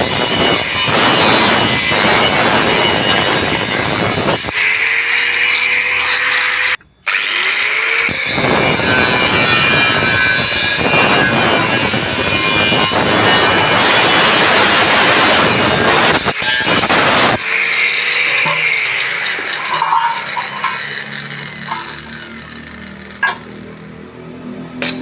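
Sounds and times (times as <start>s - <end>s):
power tool grinding metal: 0.0s - 25.0s.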